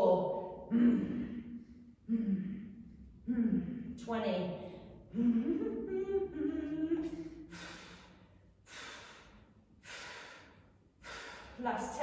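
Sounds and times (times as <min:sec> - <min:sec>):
woman breathing heavily: 0:00.4 - 0:12.0.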